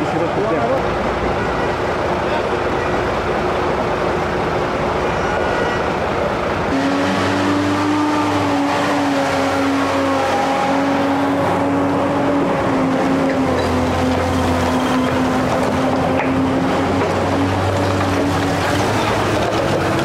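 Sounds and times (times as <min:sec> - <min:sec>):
heavy trucks driving past: 0:00.0 - 0:20.0.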